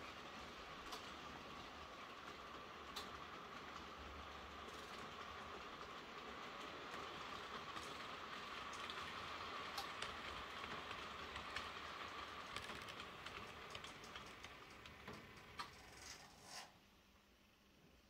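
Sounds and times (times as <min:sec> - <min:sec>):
wheels clicking over rail joints: 0:00.0 - 0:16.8.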